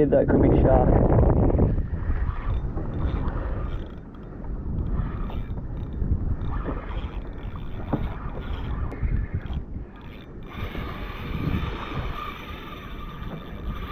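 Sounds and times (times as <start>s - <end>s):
wind on microphone: 0.0s - 13.9s
water washing against kayak hull: 0.9s - 13.9s.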